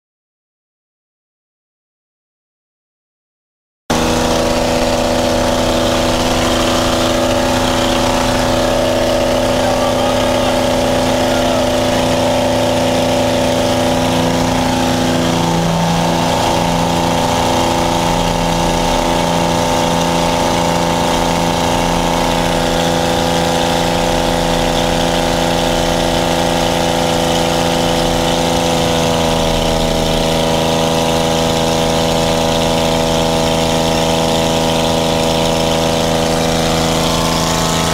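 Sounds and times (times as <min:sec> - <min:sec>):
airplane piston engine running: 0:03.9 - 0:37.9.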